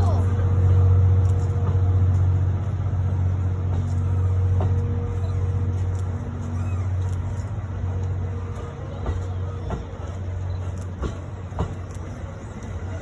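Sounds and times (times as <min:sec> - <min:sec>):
train steady low hum: 0:00.0 - 0:13.0.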